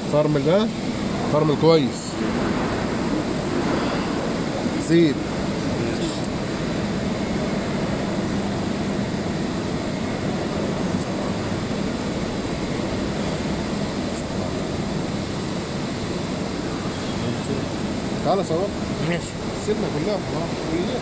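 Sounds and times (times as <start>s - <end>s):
industrial machinery drone: 0.0s - 21.0s.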